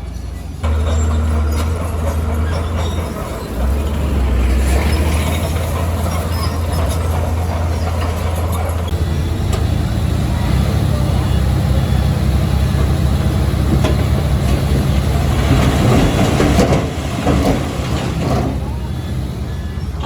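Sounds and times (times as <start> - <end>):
heavy diesel engine droning: 0.0 - 20.0.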